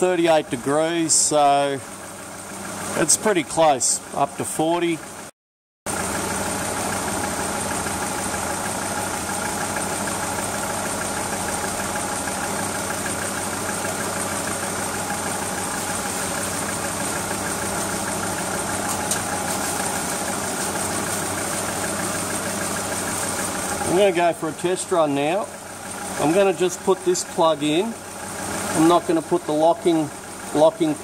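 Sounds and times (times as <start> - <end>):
van engine idling: 0.0 - 5.3, 5.9 - 31.0.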